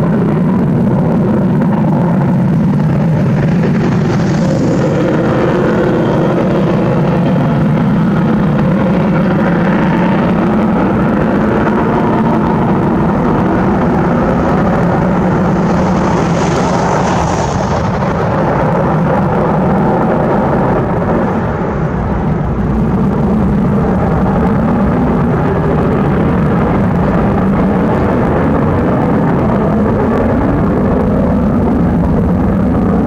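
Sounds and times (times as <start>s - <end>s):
fighter jet engines roaring: 0.0s - 33.0s.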